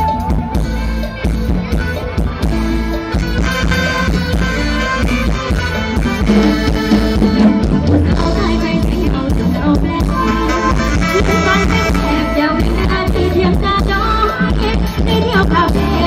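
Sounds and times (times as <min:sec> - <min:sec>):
electric guitar: 0:00.0 - 0:16.0
keyboard melody: 0:00.0 - 0:16.0
live band playing: 0:00.0 - 0:16.0
steady drum beat: 0:00.0 - 0:16.0.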